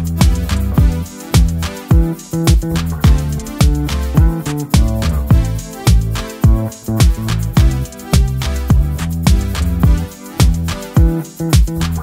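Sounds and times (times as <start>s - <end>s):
deep kick drum beat: 0.0s - 11.9s
sustained bass notes: 0.0s - 12.0s.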